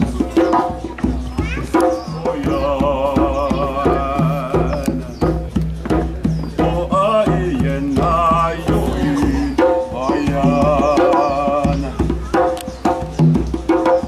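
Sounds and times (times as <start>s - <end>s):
djembe hand drums: 0.0s - 14.0s.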